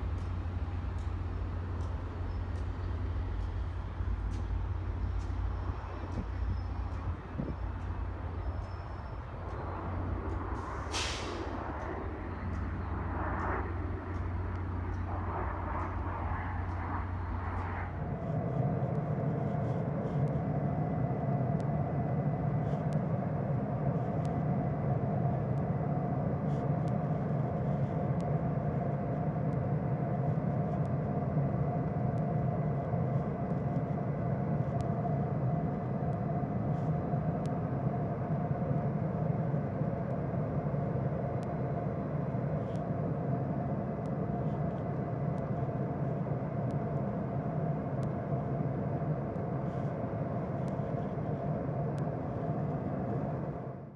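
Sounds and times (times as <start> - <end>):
diesel locomotive engine running: 0.0 - 53.9
thin steady whine: 0.0 - 53.9.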